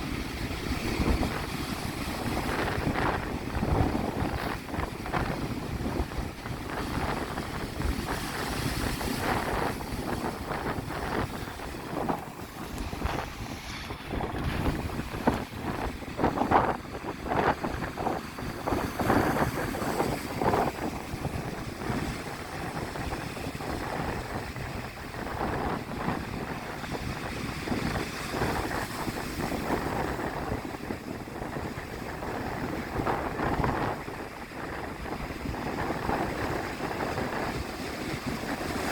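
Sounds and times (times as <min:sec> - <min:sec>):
sea waves breaking on shore: 0:00.0 - 0:38.9
wind buffeting microphone: 0:00.0 - 0:38.9.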